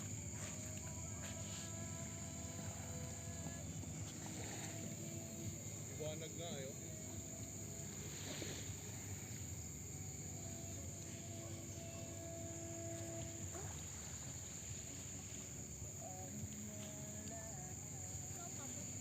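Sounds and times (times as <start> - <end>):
faint humming tone: 0.0 - 19.0
high-pitched insect drone: 0.0 - 19.0
low outdoor rumble: 0.0 - 19.0.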